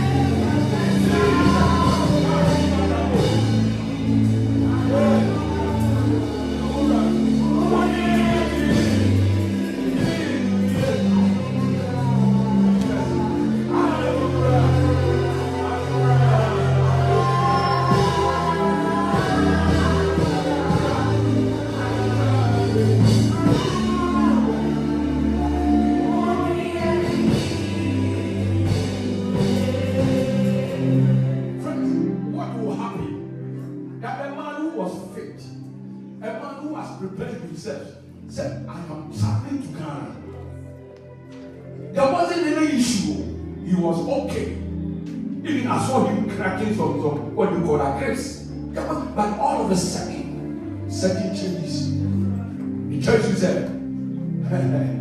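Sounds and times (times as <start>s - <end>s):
bass and keyboard notes: 0.0s - 55.0s
gospel singing: 0.0s - 55.0s.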